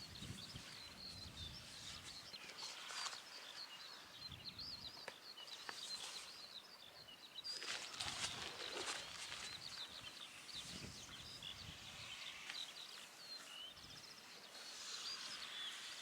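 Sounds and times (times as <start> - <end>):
faint songbirds twittering: 0.0 - 16.0.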